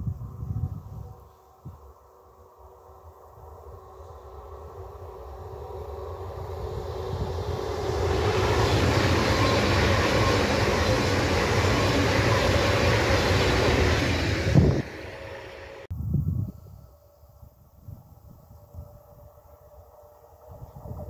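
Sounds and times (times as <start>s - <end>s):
high-speed train rushing past: 0.0s - 15.9s, 17.8s - 21.0s.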